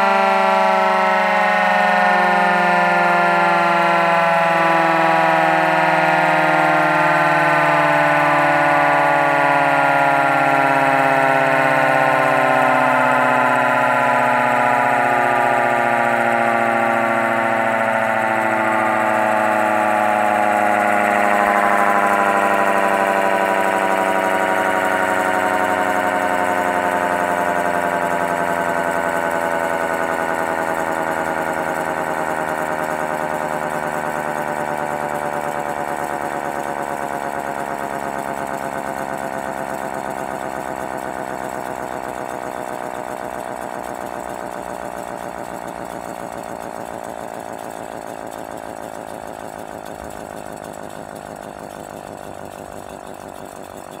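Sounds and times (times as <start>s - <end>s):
mechanical siren winding down: 0.0s - 54.0s.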